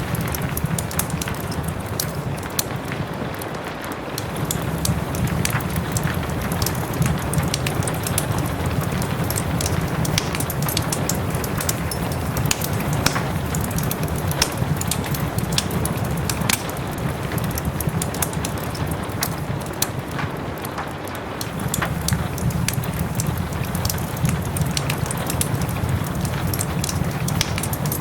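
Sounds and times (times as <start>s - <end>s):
rain rushing: 0.0s - 28.0s
wood fire crackling and popping: 0.0s - 28.0s.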